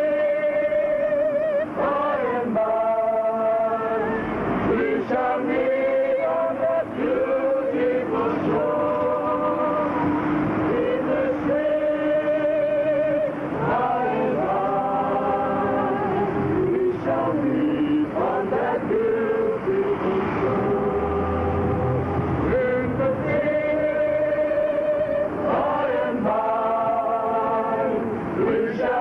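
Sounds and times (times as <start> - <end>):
group singing a hymn: 0.0 - 29.0.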